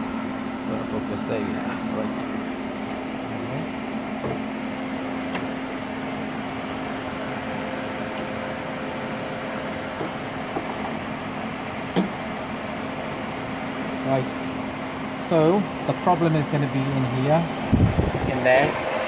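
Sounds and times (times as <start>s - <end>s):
cooling fan whirring: 0.0s - 19.0s.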